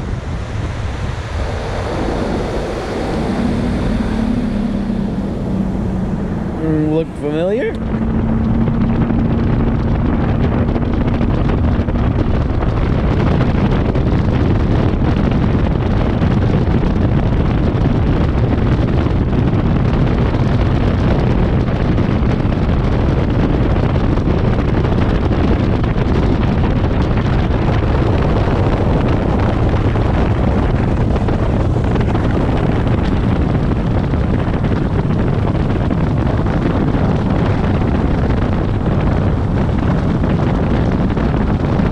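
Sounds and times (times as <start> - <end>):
outboard motor running: 0.0 - 41.9
wind buffeting microphone: 0.0 - 41.9.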